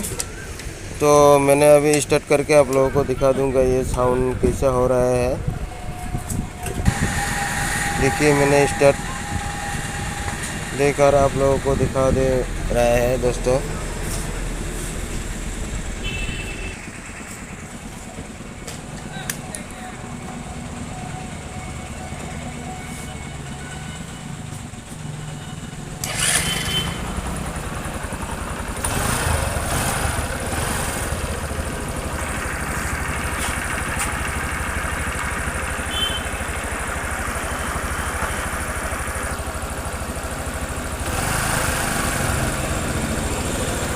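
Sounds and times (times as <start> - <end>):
motorcycle engine idling: 2.6 - 43.9.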